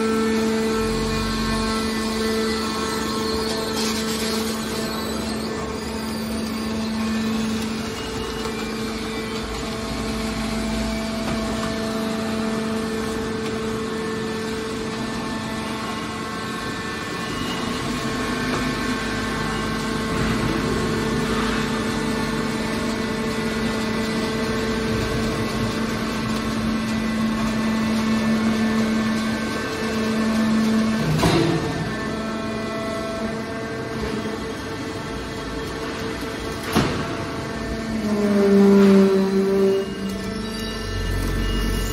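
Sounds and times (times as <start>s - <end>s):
hydraulic power unit humming: 0.0s - 41.9s.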